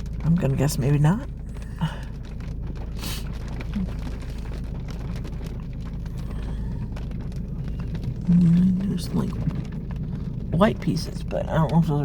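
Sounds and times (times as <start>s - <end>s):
rain on car roof: 0.0s - 12.0s
steady low rumble: 0.0s - 12.0s.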